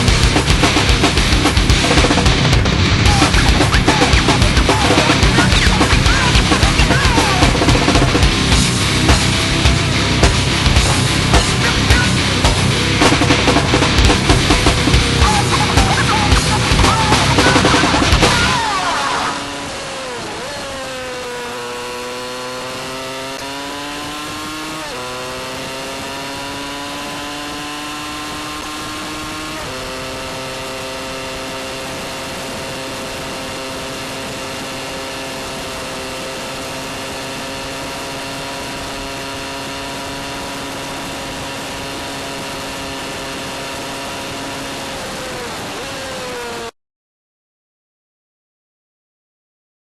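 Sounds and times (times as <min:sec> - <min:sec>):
motorcycle engine running: 0:00.0 - 0:46.7
wind and road noise: 0:00.0 - 0:46.7.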